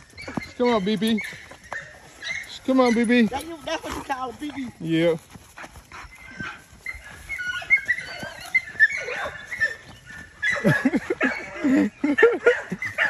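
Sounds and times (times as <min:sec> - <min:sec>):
dogs whining and yelping: 0:00.0 - 0:03.9, 0:05.8 - 0:13.0.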